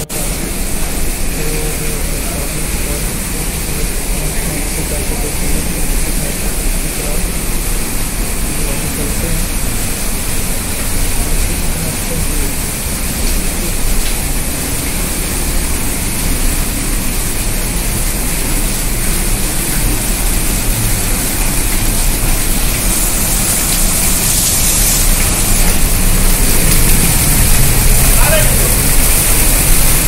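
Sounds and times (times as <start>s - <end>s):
water rushing and splashing: 0.0s - 30.0s.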